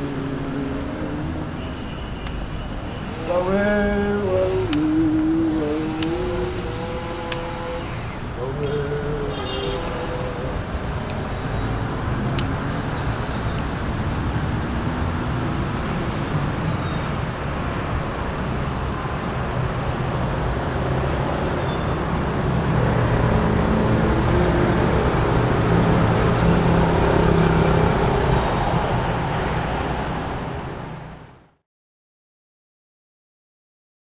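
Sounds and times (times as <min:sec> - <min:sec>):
vehicle engine: 0:00.0 - 0:31.5
road traffic noise: 0:00.0 - 0:31.6.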